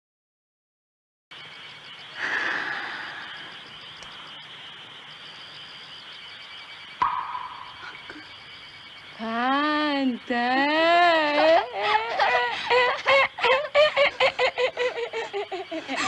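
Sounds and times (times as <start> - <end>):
old film soundtrack hiss: 1.4 - 16.0.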